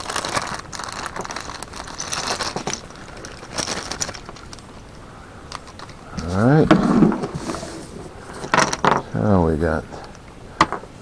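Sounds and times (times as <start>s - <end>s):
packaging crinkling and rustling: 0.0s - 8.9s.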